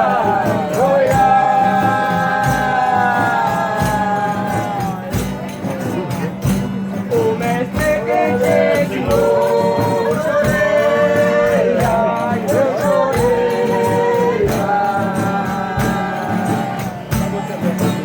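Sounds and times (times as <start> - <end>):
group singing in harmony: 0.0 - 5.4, 7.0 - 18.0
steady percussion strikes: 0.0 - 18.0.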